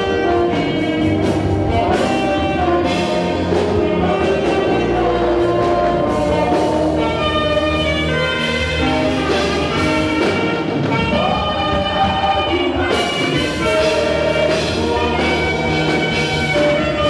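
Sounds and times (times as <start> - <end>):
live band gospel music: 0.0 - 17.0
saxophone lead melody: 0.0 - 17.0.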